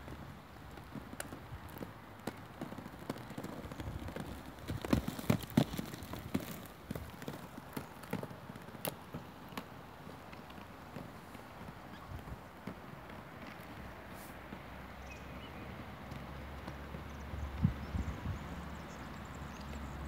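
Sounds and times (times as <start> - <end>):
skate wheels rolling over bricks: 0.0 - 20.0.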